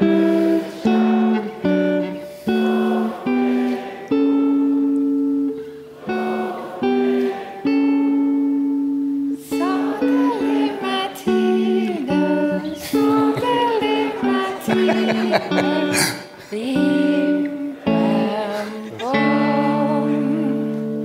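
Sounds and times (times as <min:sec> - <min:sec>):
guitar playing held notes: 0:00.0 - 0:21.0
person singing sliding notes: 0:00.0 - 0:21.0.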